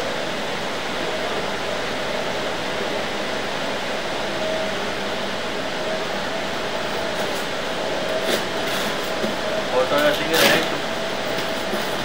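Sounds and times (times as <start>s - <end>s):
faint steady tone: 0.0s - 9.9s
mechanical hum and hiss: 0.0s - 12.0s.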